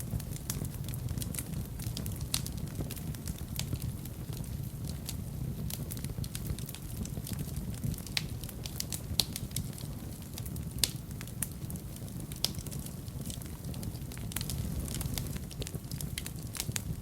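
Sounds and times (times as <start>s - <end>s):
fireplace fire crackling: 0.0s - 17.0s
sharp pops of fire: 0.0s - 17.0s.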